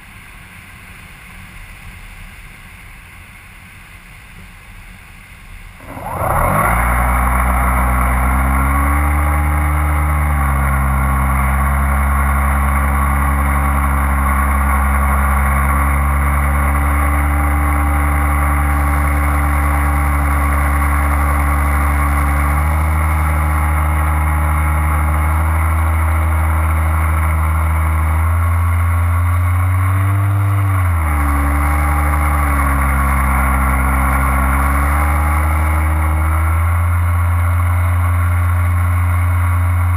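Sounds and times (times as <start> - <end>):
small aircraft engine running: 0.0 - 39.9.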